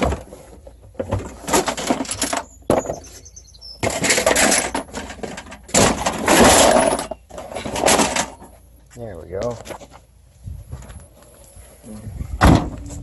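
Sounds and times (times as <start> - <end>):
scrap rattling and scraping: 0.0 - 11.4.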